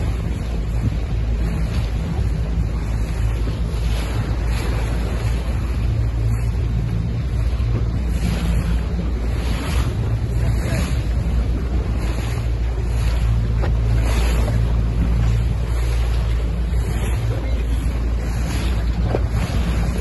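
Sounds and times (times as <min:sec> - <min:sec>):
motorboat engine droning: 0:00.0 - 0:20.0
water rushing past hull: 0:00.0 - 0:20.0
wind buffeting microphone: 0:00.0 - 0:20.0.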